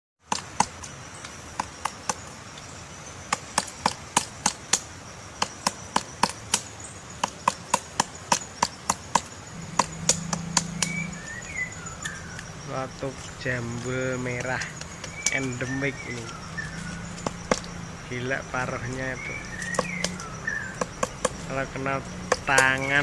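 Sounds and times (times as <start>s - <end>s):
woodpecker pecking wood: 0.2s - 2.6s, 3.2s - 23.0s.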